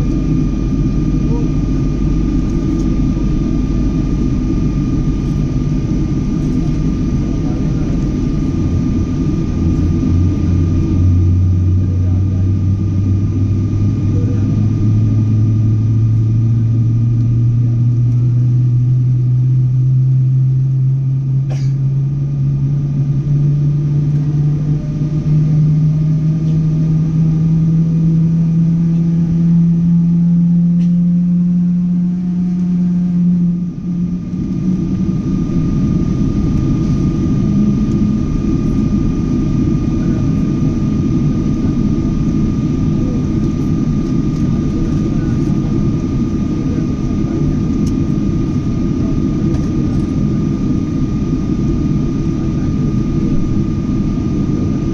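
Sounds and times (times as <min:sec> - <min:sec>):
heavy rumble: 0:00.0 - 0:54.9
jet engines at takeoff: 0:00.0 - 0:54.9.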